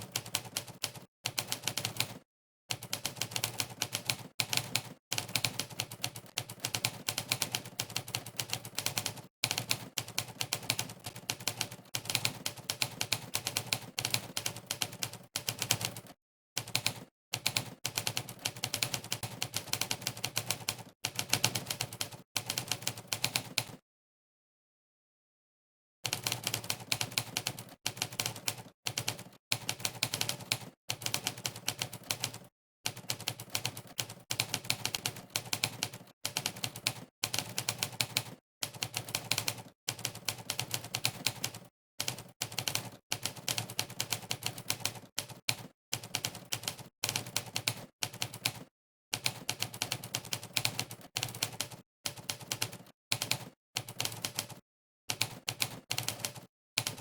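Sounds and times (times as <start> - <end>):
typewriter keystroke clacks: 0.0 - 23.8, 26.1 - 57.0.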